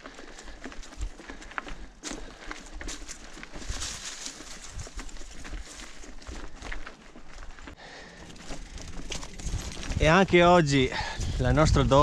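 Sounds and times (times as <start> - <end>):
bike crunching over leaves and stones: 0.0 - 11.4.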